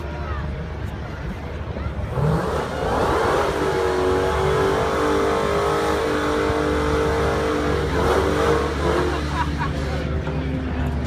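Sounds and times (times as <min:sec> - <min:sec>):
engine at high steady revs: 0:02.1 - 0:11.0.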